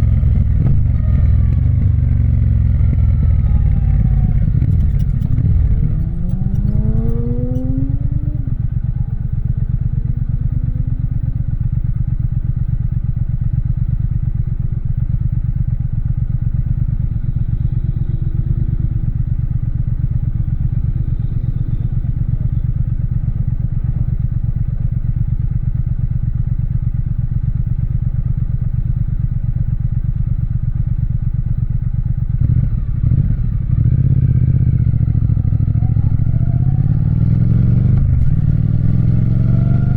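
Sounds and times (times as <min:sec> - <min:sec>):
motorcycle engine accelerating: 0:00.0 - 0:26.7, 0:27.3 - 0:39.9.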